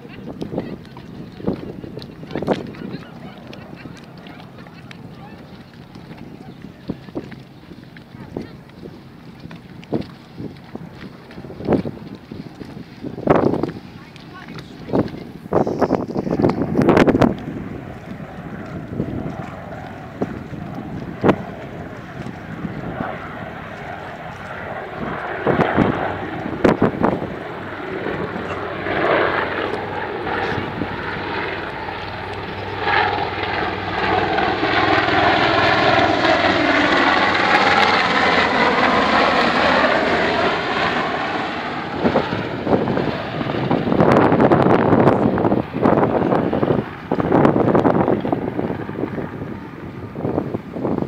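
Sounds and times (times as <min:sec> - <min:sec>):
helicopter rotor and engine: 0:00.0 - 0:51.0.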